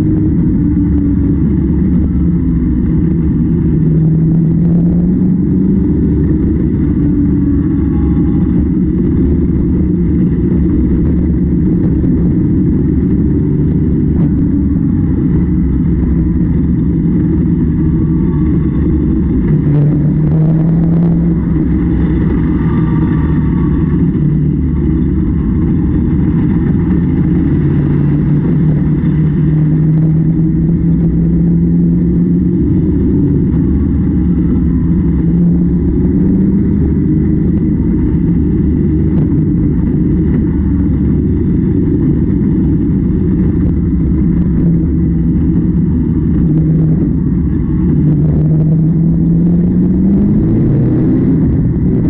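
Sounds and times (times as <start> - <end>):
harvester engine droning: 0.0 - 52.0.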